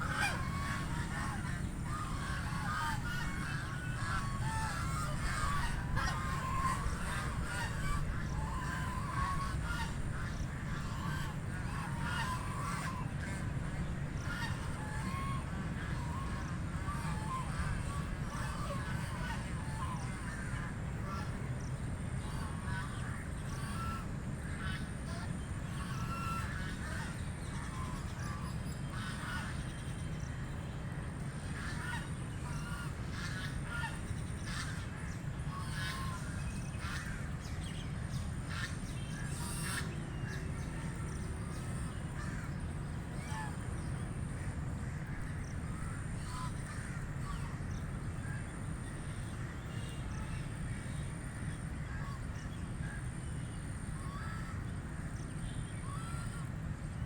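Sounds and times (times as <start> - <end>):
ducks quacking: 0.0 - 56.9.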